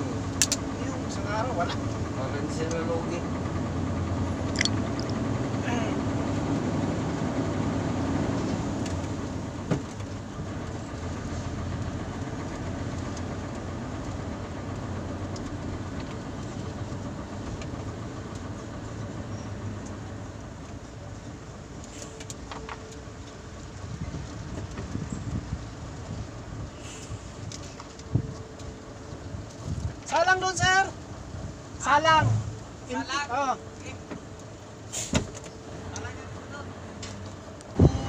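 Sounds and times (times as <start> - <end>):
truck engine running at low speed: 0.0 - 38.0.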